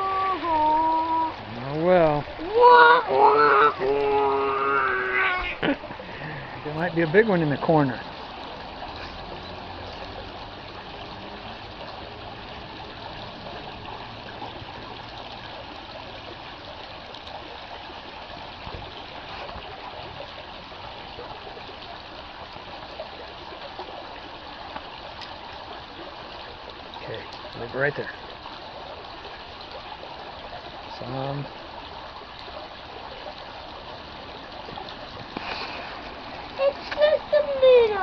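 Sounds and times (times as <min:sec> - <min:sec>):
creek water flowing: 0:00.0 - 0:38.0.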